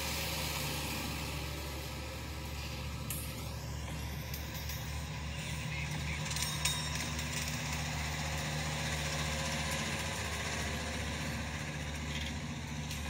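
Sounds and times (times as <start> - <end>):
train engine drone: 0.0 - 13.0.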